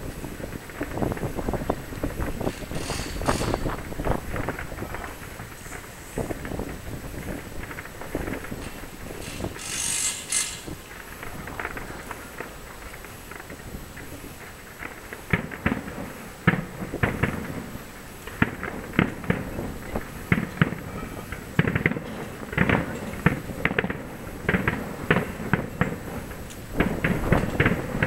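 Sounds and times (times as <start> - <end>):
firework shells bursting: 0.4 - 28.0.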